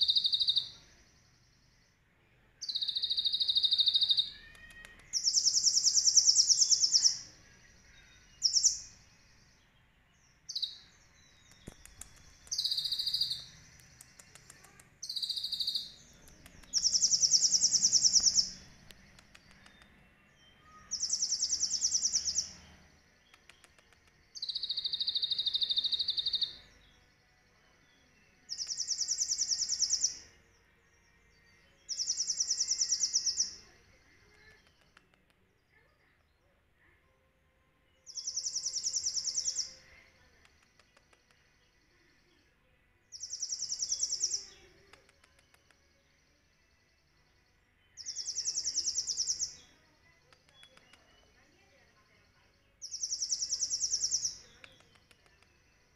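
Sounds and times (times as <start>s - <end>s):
bird trilling song: 0.0s - 2.0s, 2.6s - 35.2s, 38.0s - 42.4s, 43.1s - 45.8s, 46.6s - 55.9s
soft bird twittering: 0.0s - 2.0s, 2.6s - 30.8s, 31.4s - 35.9s, 38.1s - 42.5s, 43.1s - 55.9s.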